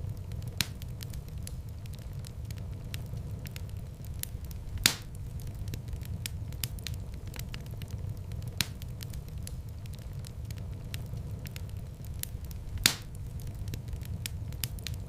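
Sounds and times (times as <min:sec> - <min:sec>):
loud fire pops: 0:00.0 - 0:15.0
wood fire crackling: 0:00.0 - 0:15.0.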